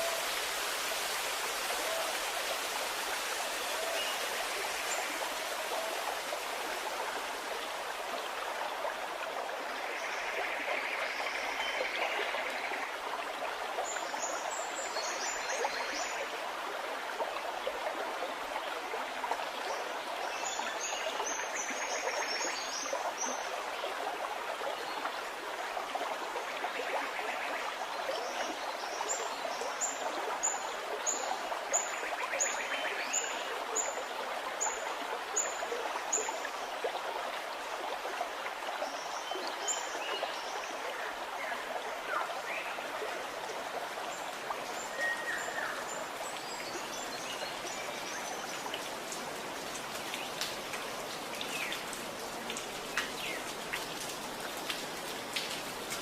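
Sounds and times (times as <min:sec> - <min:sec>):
stream gurgling: 0:00.0 - 0:56.0.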